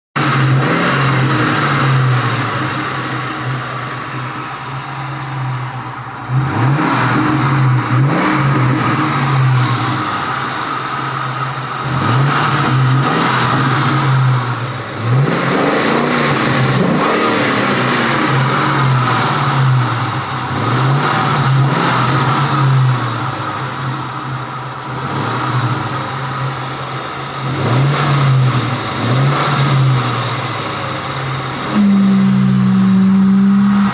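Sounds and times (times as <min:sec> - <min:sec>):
car engine idling and revving: 0:00.2 - 0:33.9.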